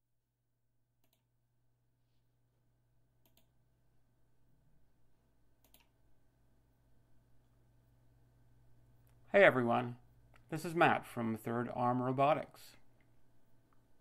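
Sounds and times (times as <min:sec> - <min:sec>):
faint steady hum: 0:00.2 - 0:14.0.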